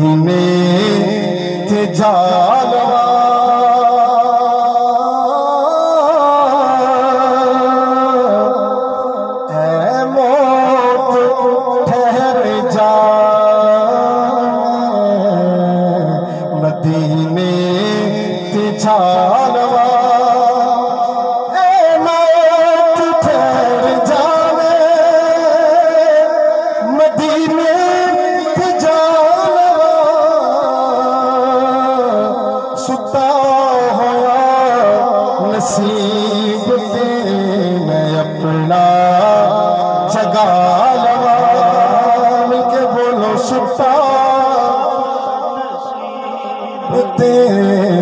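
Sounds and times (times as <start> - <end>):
man singing through a pa: 0.0 - 48.0.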